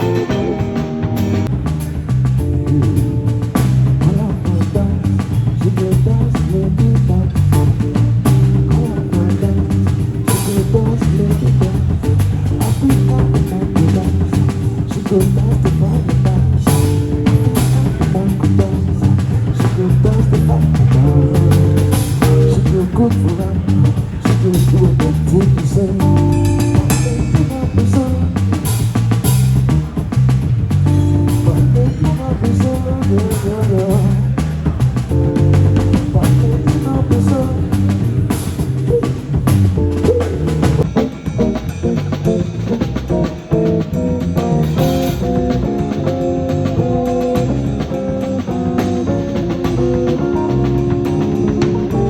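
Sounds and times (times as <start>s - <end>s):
drum kit hits: 0.0s - 52.0s
guitar: 0.0s - 52.0s
live band instrumental groove: 0.0s - 52.0s
low bass notes: 0.0s - 52.0s.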